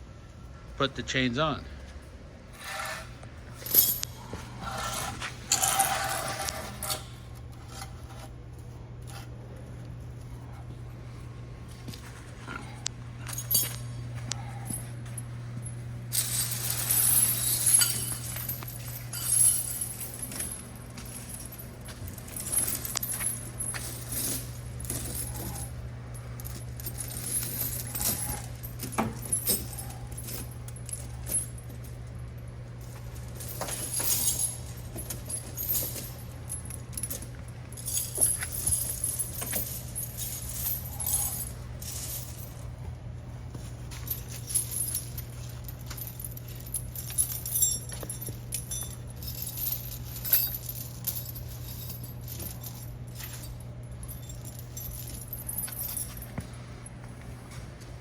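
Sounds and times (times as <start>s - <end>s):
steady low hum: 0.0s - 58.0s
chain links jingling: 2.6s - 10.4s, 13.2s - 42.8s, 43.4s - 56.6s.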